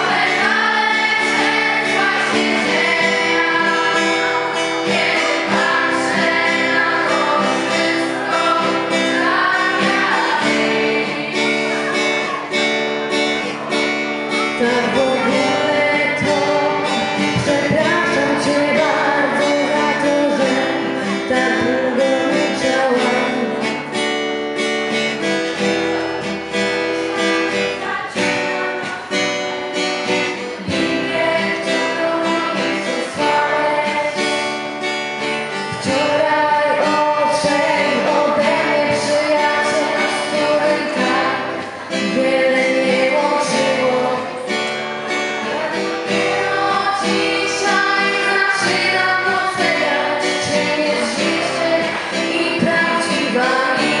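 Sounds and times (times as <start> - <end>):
group of young voices singing: 0.0 - 24.0, 25.5 - 54.0
acoustic guitar strumming: 0.0 - 54.0.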